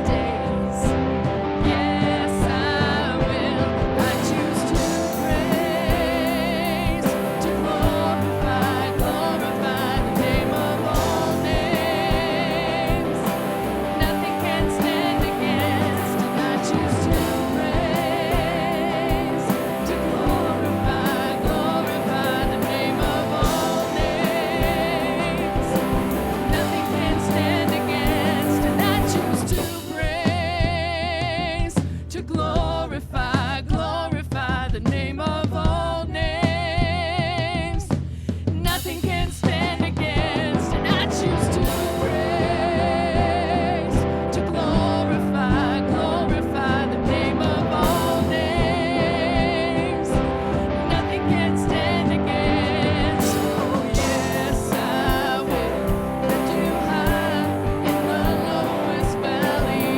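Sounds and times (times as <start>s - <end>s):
steady drum beat: 0.0s - 59.9s
worship band music with singing: 0.0s - 59.9s.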